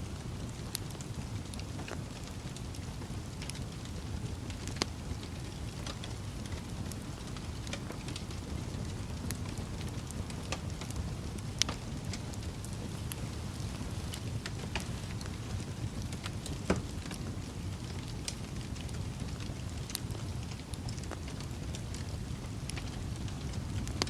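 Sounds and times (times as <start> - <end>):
fire popping: 0.0 - 24.0
low rumble of flame: 0.0 - 24.0
wood fire crackling: 0.0 - 24.0.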